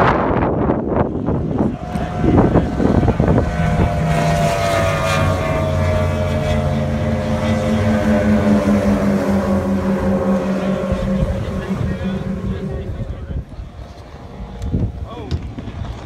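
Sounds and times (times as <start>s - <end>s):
speedboat outboard motor: 0.0s - 16.0s
wind buffeting microphone: 0.0s - 16.0s.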